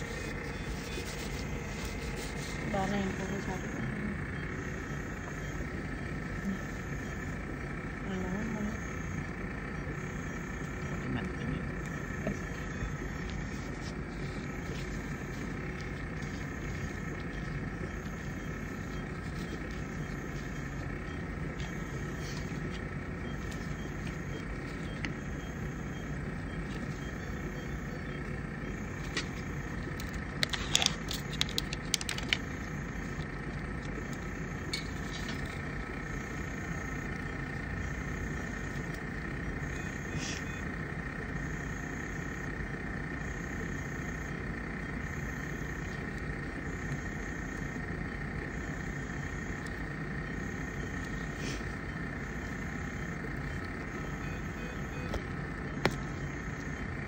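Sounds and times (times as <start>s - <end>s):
faint high steady tone: 0.0s - 57.0s
medical equipment hum: 0.0s - 57.0s.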